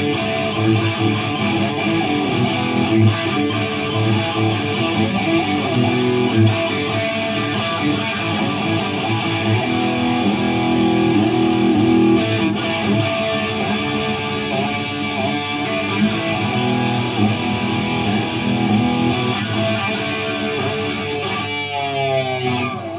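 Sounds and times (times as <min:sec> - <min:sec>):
distorted electric guitar: 0:00.0 - 0:22.9.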